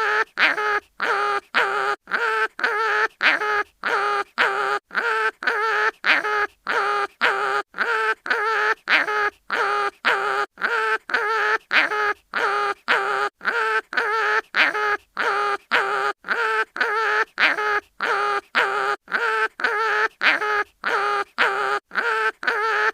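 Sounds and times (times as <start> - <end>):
cartoon animal crying: 0.0 - 22.9.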